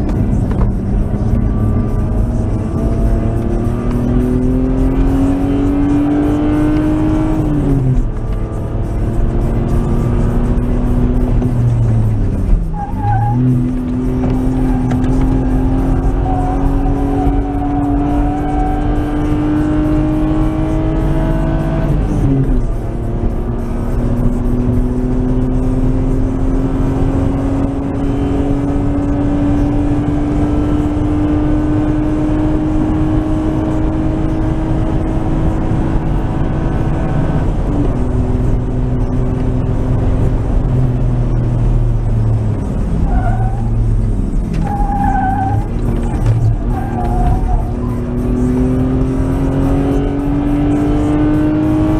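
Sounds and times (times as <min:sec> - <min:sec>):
car engine accelerating: 0:00.0 - 0:51.9.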